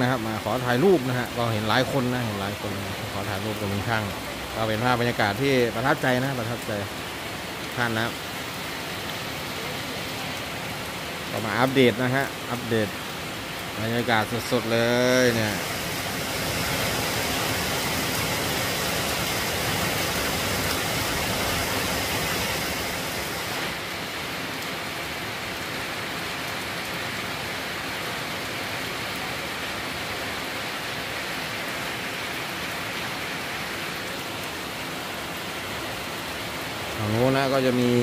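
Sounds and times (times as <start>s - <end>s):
heavy rain on standing water: 0.0s - 38.0s.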